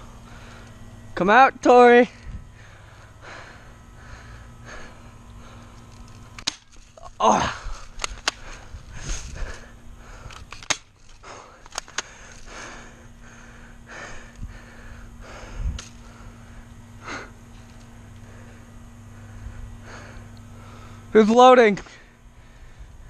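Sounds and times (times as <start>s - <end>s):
rustling of movement: 2.1s - 21.2s.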